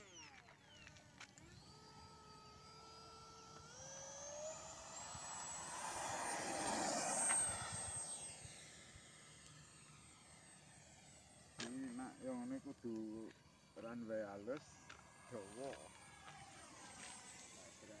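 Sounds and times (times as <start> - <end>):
model jet fan whining: 0.0 - 18.0.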